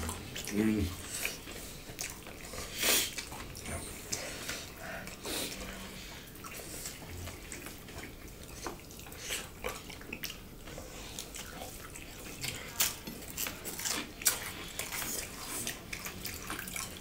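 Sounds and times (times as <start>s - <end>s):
chewing and mouth smacks: 0.0s - 17.0s.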